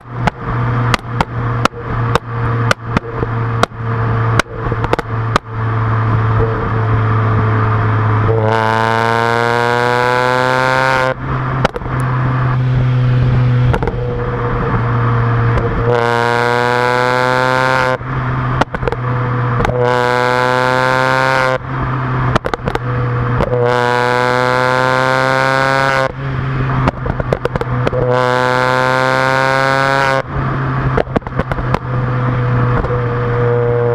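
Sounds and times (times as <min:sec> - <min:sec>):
exhaust pops and crackles: 0:00.0 - 0:06.8, 0:08.2 - 0:33.9
car engine revving: 0:00.0 - 0:33.9.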